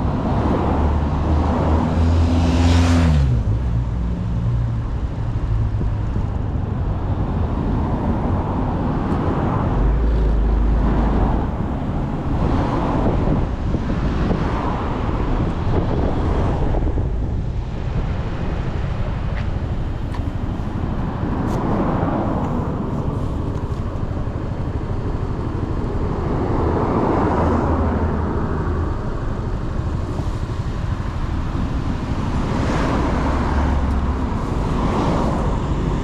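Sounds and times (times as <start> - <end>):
passing traffic: 0.0 - 36.0
road and wind noise: 0.0 - 36.0.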